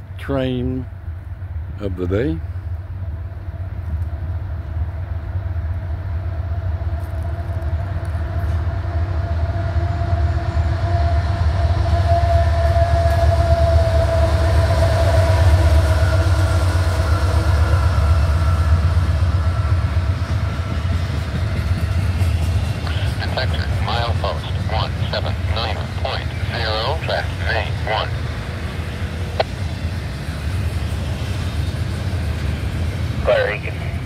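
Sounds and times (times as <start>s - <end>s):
diesel locomotive engine rumble: 0.0s - 34.0s.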